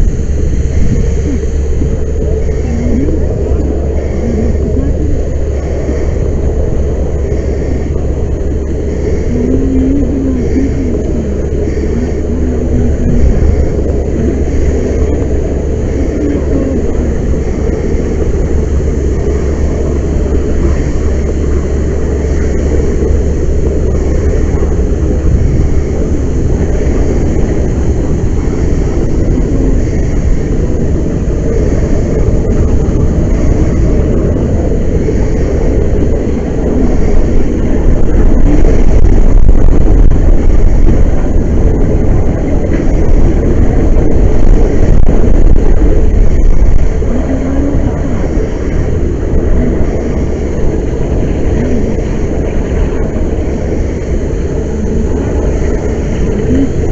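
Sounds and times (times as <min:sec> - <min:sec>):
roar of large fire jetting: 0:00.0 - 0:56.9.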